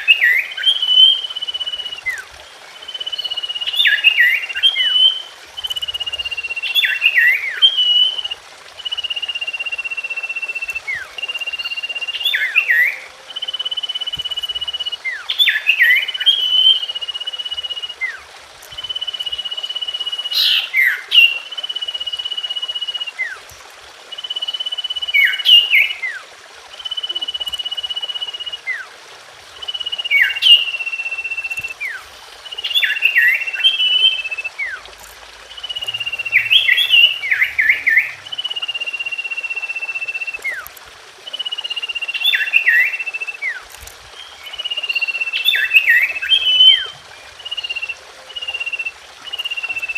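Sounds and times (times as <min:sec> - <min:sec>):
bird whistling song: 0:00.0 - 0:28.9, 0:29.5 - 0:49.9.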